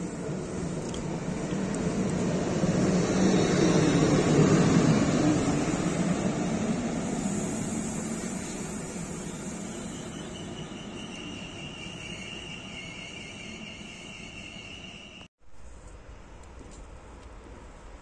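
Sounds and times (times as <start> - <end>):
electric locomotive humming: 0.0 - 15.3.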